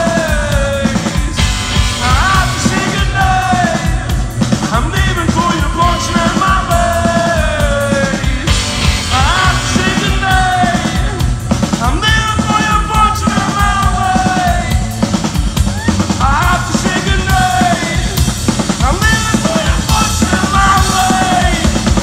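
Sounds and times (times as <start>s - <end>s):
drum kit beat: 0.0s - 22.0s
electric guitars: 0.0s - 22.0s
man singing: 0.0s - 22.0s.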